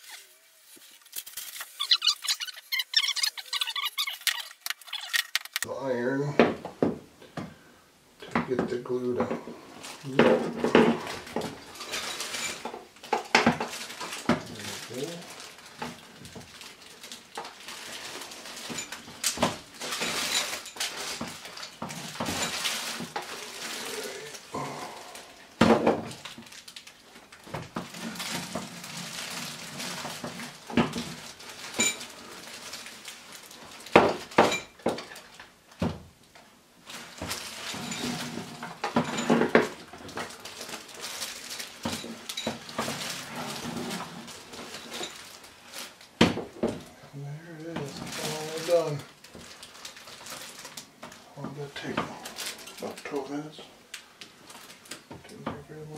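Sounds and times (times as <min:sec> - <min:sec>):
rustling: 0:00.0 - 0:05.7, 0:08.2 - 0:55.9.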